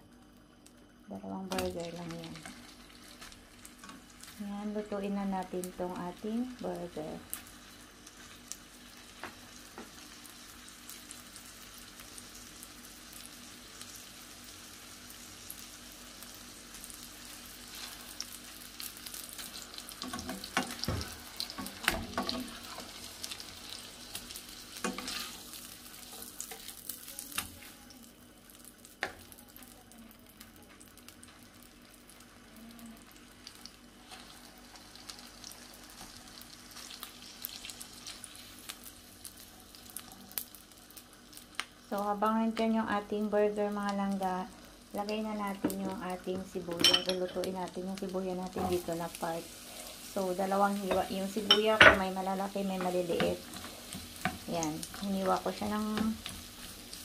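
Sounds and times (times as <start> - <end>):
burger patties sizzling in a pan: 0.0 - 57.0.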